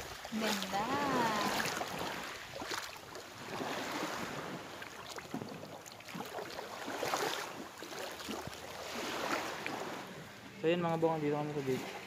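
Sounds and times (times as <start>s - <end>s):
waves washing over pebbles: 0.0s - 12.0s.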